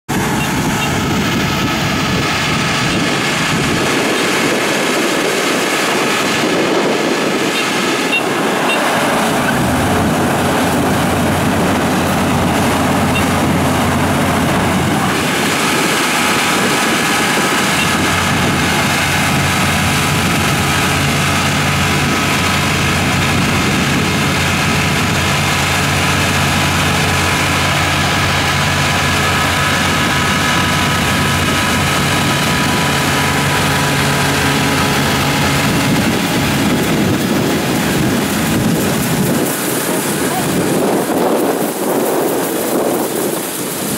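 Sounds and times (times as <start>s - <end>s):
combine harvester engine drone: 0.0s - 43.9s
high machine whines: 0.1s - 43.9s.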